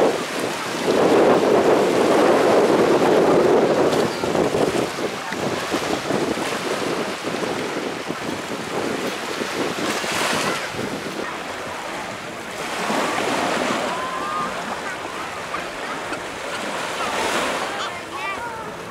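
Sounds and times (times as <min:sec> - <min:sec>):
small sea waves on beach: 0:00.0 - 0:18.9
wind buffeting microphone: 0:00.0 - 0:18.9.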